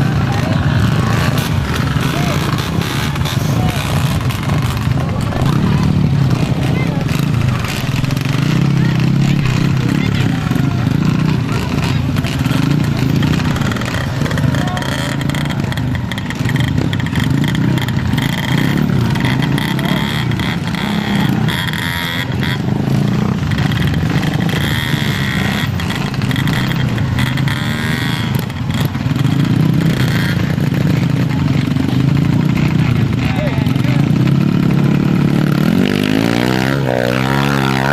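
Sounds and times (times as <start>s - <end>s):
dirt bike engines running: 0.0s - 37.9s.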